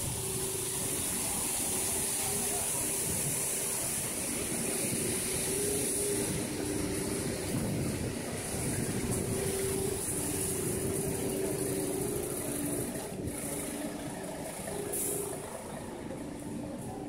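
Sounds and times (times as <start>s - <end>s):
engine-like hum: 0.0s - 17.0s
motor traffic: 0.0s - 17.0s.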